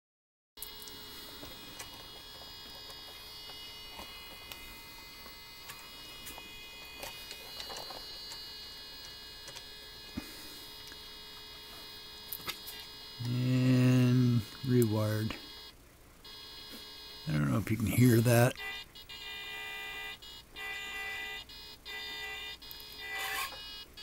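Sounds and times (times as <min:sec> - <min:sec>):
faint electrical hum: 0:00.6 - 0:24.0.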